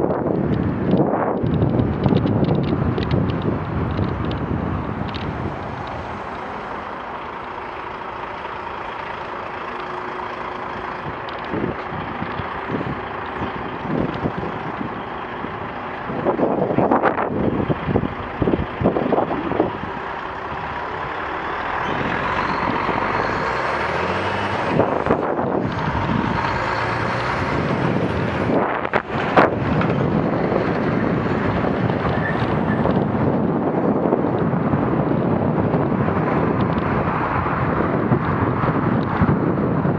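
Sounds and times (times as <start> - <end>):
lorry diesel engines: 0.0 - 39.9
traffic and road noise: 0.0 - 39.9
tyres on road: 0.0 - 39.9.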